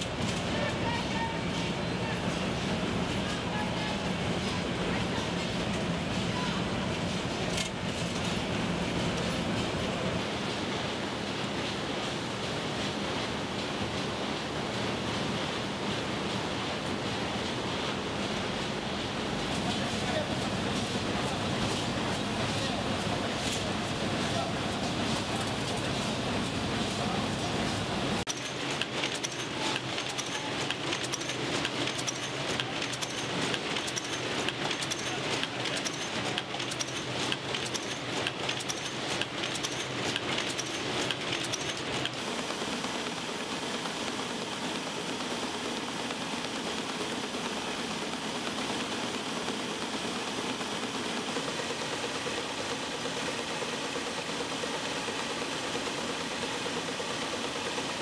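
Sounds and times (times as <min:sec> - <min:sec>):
smooth mechanical machine noise: 0:00.0 - 0:58.0
machine clattering fast: 0:07.0 - 0:58.0.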